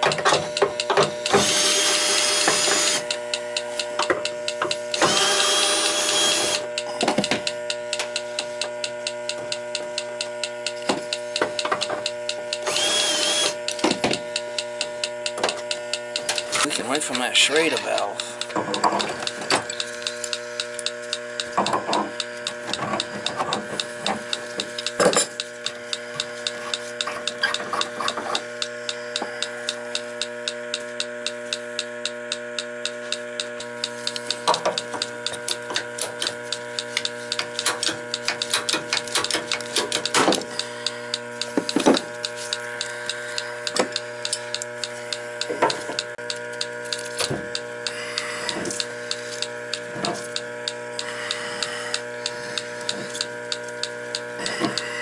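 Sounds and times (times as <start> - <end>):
leak detector ticking: 0.0 - 55.0
steady hum: 0.0 - 55.0.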